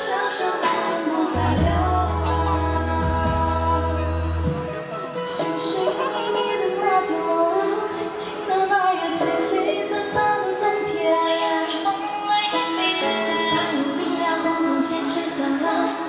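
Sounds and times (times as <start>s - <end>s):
live pop music over pa: 0.0s - 16.0s
woman singing wordless melody: 0.0s - 16.0s.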